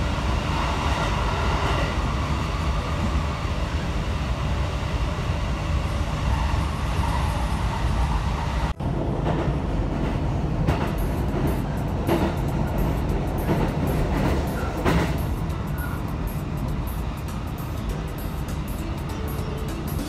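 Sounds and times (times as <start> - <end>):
train rumbling in tunnel: 0.0 - 20.0.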